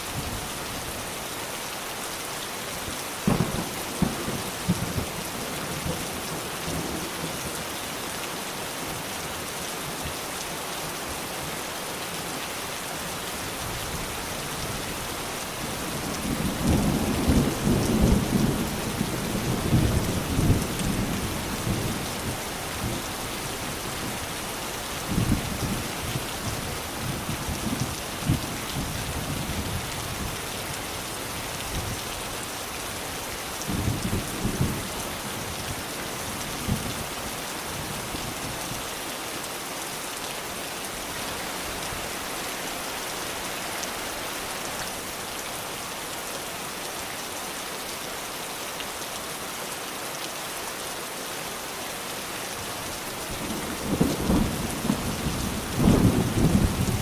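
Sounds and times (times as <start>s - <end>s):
rain pattering: 0.0s - 57.0s.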